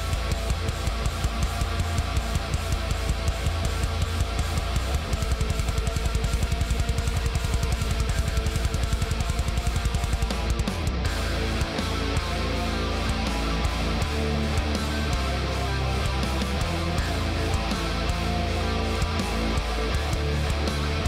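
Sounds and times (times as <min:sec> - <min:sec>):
rock music with guitar and drums: 0:00.0 - 0:21.0.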